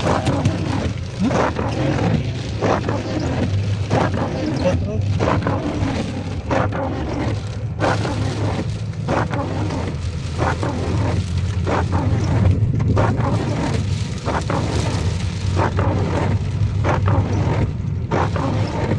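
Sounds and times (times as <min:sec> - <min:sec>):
heavy rain: 0:00.0 - 0:18.9
low rumble: 0:00.0 - 0:18.9.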